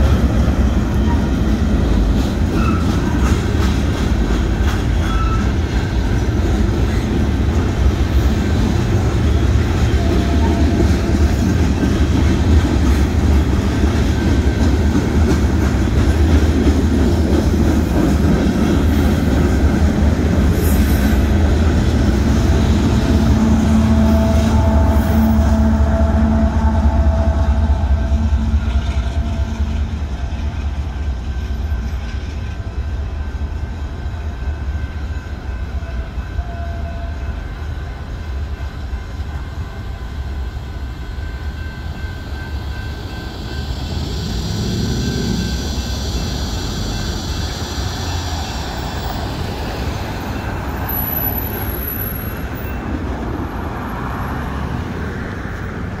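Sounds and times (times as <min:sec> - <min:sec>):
road traffic: 0:00.0 - 0:36.4, 0:41.8 - 0:56.0
freight train rumbling: 0:00.0 - 0:56.0.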